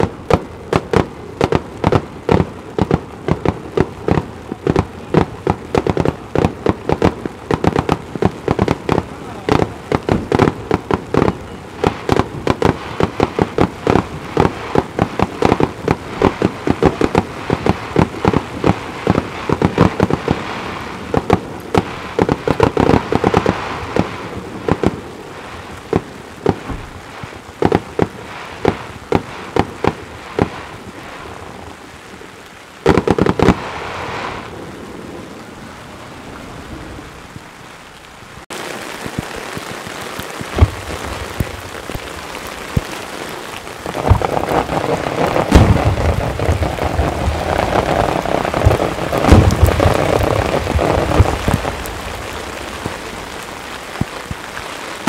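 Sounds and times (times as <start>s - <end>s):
fireworks bursting: 0.0s - 32.2s, 32.8s - 34.6s, 38.5s - 55.0s
heavy rain hissing: 0.0s - 55.0s.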